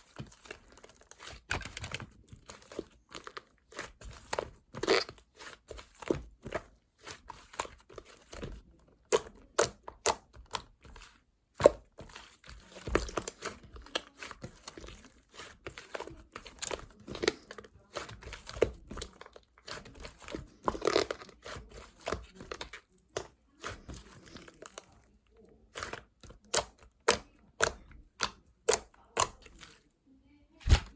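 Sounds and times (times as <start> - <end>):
crinkling and crunching: 0.0 - 29.9.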